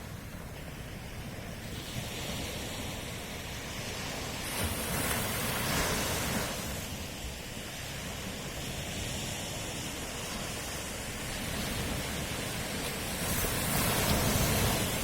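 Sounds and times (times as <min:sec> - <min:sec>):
ocean waves washing on shore: 0:00.0 - 0:15.0.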